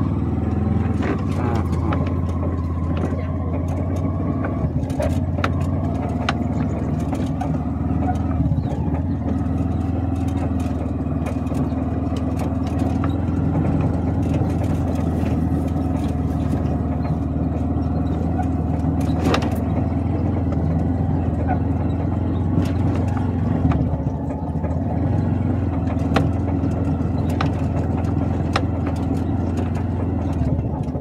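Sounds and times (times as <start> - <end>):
knocks and rattles: 0.0 - 31.0
vehicle engine humming: 0.0 - 31.0.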